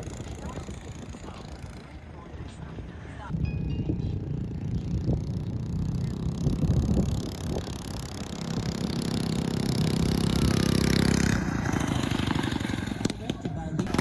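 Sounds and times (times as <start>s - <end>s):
small minibike engine running: 0.0s - 2.0s, 4.3s - 14.0s.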